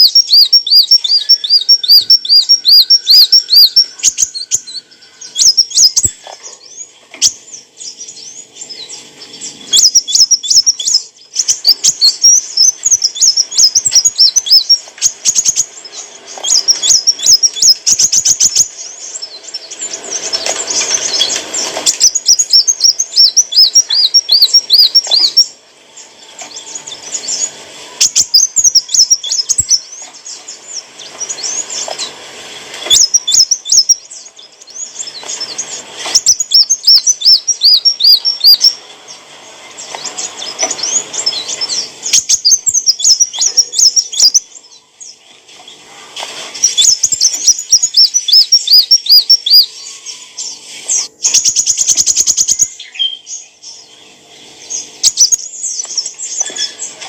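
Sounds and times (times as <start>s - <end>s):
bird singing: 0.0s - 45.9s, 46.6s - 57.0s.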